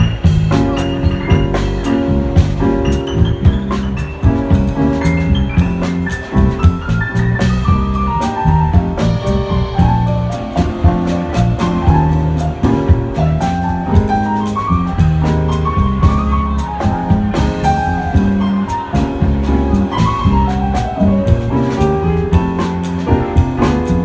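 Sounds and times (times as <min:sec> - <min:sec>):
drum kit with cymbals: 0:00.0 - 0:24.0
electric bass notes: 0:00.0 - 0:24.0
keyboard melody: 0:00.0 - 0:24.0.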